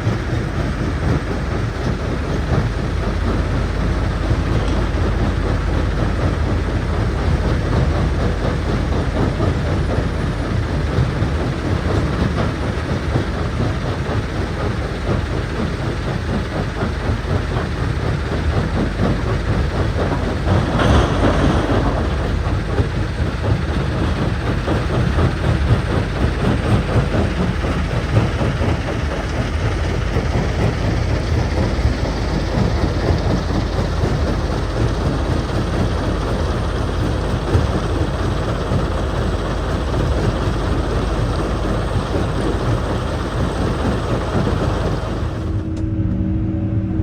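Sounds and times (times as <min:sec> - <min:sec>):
heavy diesel rumble: 0:00.0 - 0:47.0.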